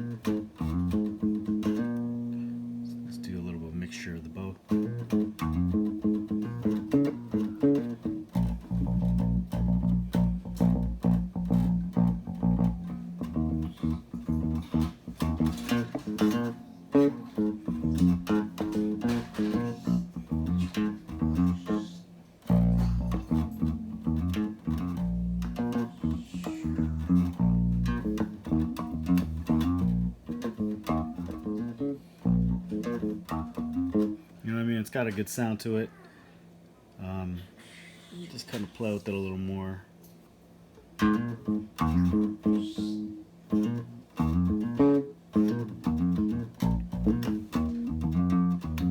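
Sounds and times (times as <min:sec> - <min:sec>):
plucked guitar notes: 0:00.0 - 0:34.3, 0:40.9 - 0:48.9.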